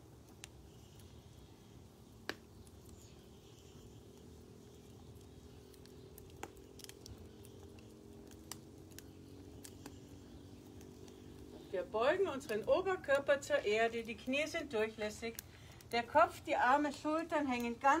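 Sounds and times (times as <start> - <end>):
low steady rumble: 0.0 - 18.0
wood fire crackling: 0.0 - 18.0.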